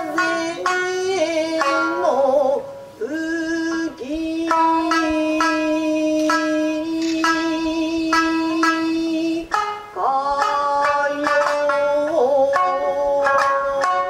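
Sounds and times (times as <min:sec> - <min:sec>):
shamisen plucked notes: 0:00.0 - 0:14.0
woman singing: 0:00.0 - 0:14.0.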